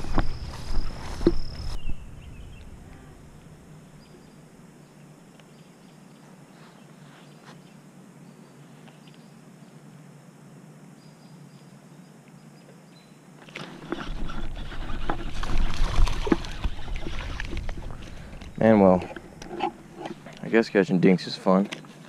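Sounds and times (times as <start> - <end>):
low even hiss: 0.0 - 22.0.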